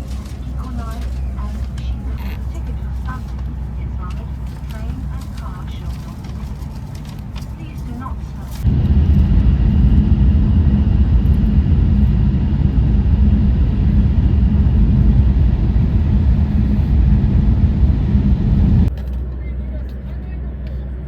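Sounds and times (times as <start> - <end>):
train rumbling from inside carriage: 0.0 - 21.0.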